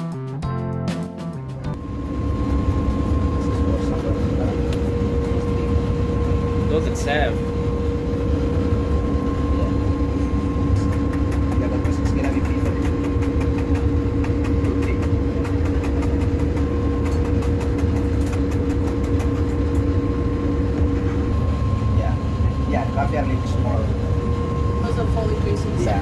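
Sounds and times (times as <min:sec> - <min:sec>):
boat engine rumble: 0:01.7 - 0:26.0.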